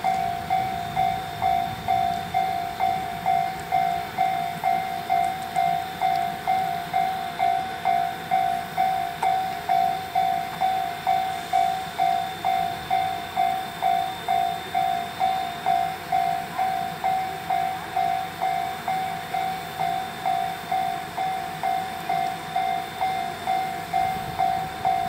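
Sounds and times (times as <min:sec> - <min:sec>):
level crossing warning bell: 0:00.0 - 0:25.0.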